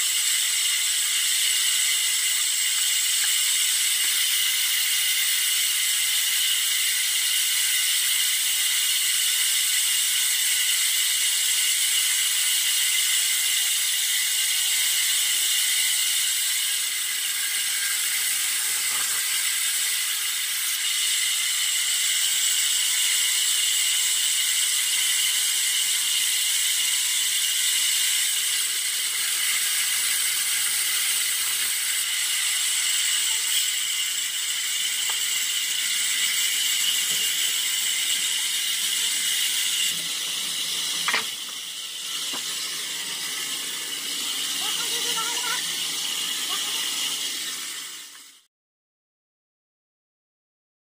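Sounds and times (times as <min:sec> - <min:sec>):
electric log saw cutting: 0:00.0 - 0:48.5.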